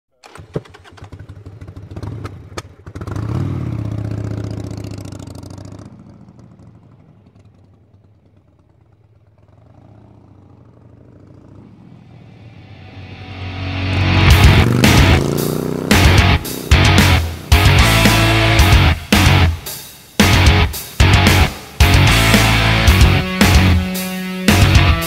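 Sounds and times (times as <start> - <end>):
motorcycle engine running: 0.8 - 25.0.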